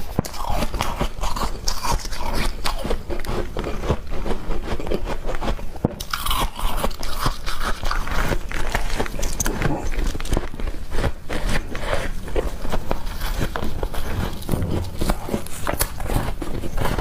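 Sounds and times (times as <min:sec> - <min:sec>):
person crunching ice: 0:00.0 - 0:17.0.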